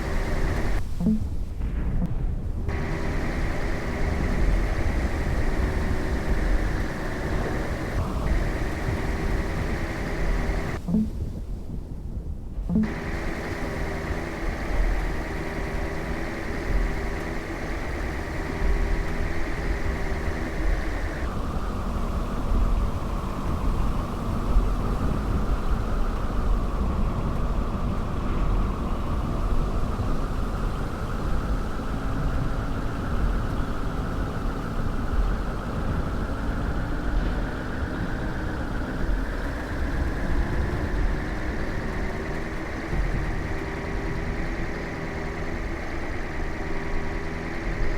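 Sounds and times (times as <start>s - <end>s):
engine whine: 0.0s - 11.5s, 12.6s - 47.9s
car engine and road noise: 0.0s - 47.9s.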